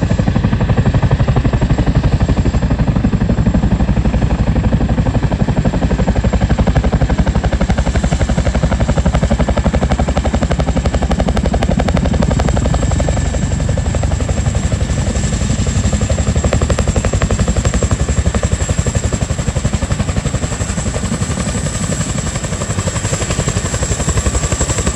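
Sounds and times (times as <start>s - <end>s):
helicopter rotors beating: 0.0s - 24.9s.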